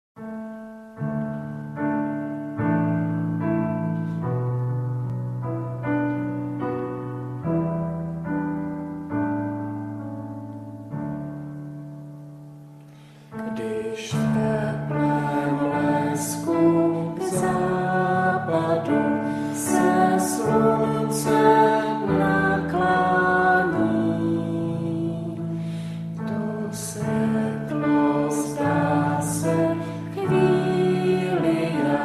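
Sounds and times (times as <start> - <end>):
piano chords: 0.2 - 32.0.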